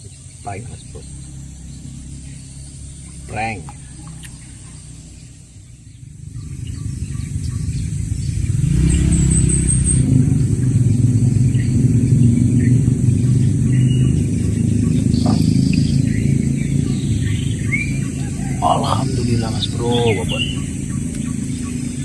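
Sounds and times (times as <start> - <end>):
small boat engine running: 0.0 - 22.0.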